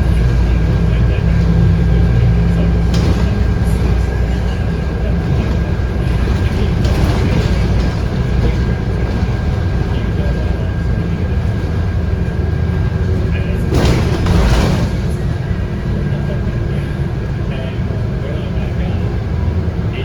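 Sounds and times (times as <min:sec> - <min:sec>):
bus diesel engine and road rumble: 0:00.0 - 0:20.0.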